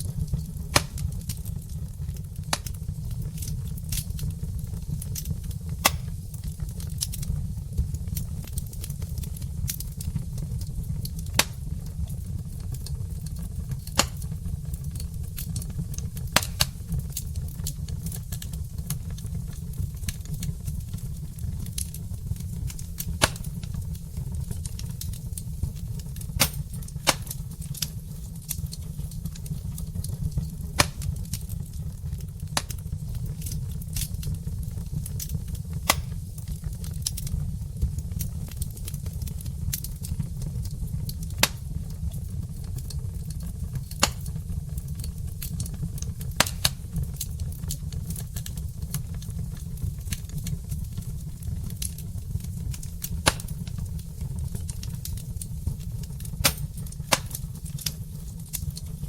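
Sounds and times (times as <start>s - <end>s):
wood fire popping and crackling: 0.0s - 59.0s.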